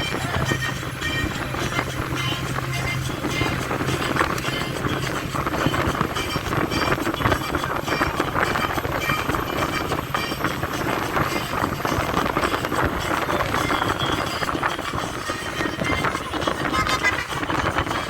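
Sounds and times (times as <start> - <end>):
moving vehicle noise: 0.0 - 18.0.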